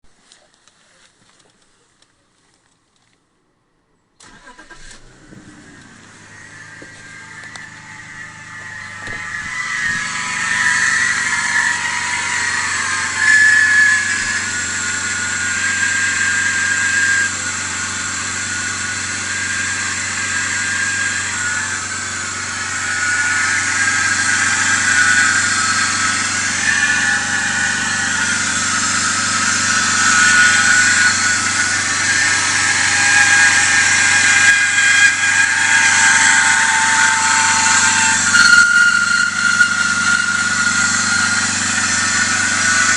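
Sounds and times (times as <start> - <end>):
car engine running: 4.2 - 42.9
belt pulley squeal and chirping: 6.3 - 42.9.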